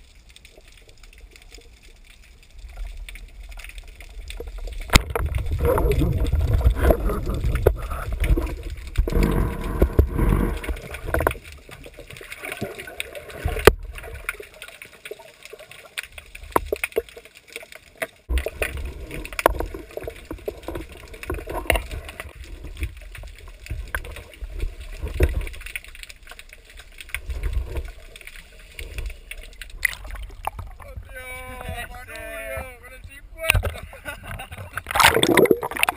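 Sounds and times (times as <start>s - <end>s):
muffled water sloshing and gurgling: 0.0s - 35.9s.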